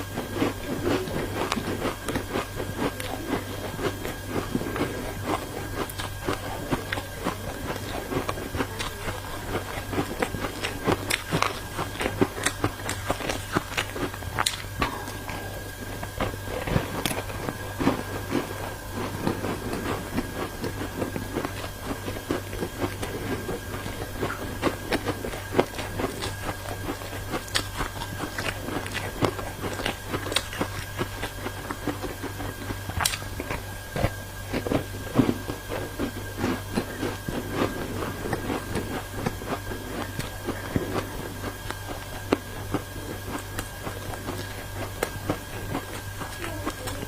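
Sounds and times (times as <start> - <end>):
ice being chewed: 0.0 - 47.0
low hum: 0.0 - 47.0.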